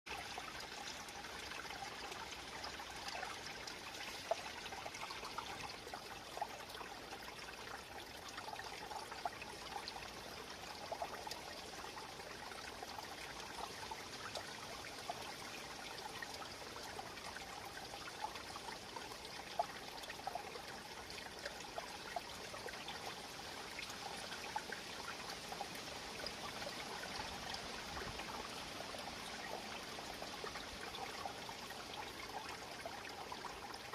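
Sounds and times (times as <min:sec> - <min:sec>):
small stream trickling: 0:00.1 - 0:33.9
water splashes and drips: 0:00.1 - 0:33.9.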